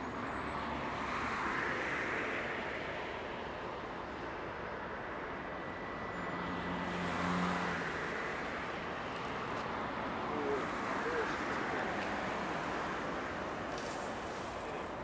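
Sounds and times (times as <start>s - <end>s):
distant road traffic: 0.0s - 15.0s.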